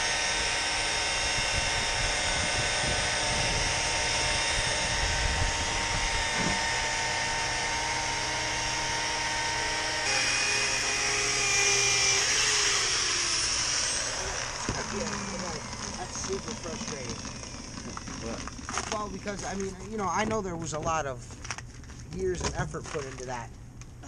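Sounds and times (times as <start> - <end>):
rotary polisher motor whine: 0.0 - 19.5.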